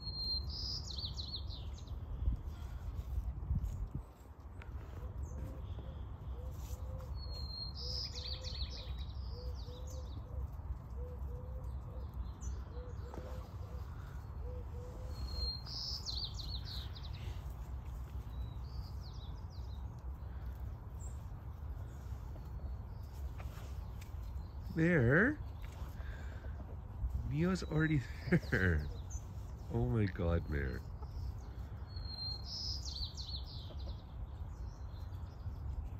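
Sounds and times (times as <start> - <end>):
songbird singing: 0.0 - 35.9.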